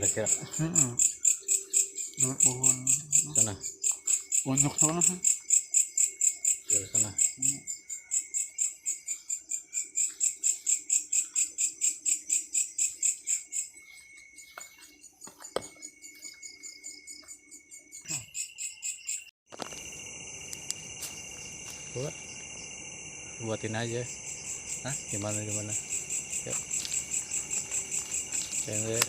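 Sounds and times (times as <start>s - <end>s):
high insect trill: 0.0s - 29.0s
insects chirping: 0.0s - 29.0s.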